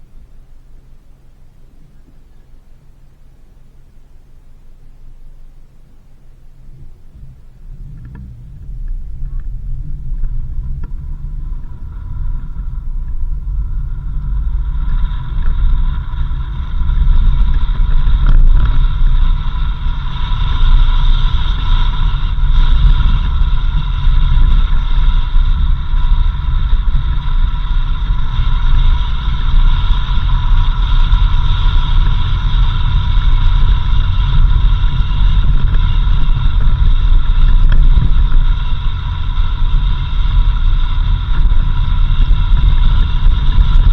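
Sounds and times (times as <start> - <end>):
high whine: 0.0 - 43.9
vehicle engine and road rumble: 0.0 - 43.9.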